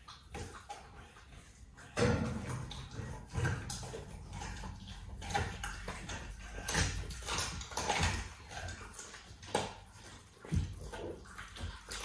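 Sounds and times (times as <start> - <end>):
big cats chewing meat: 0.0 - 12.0.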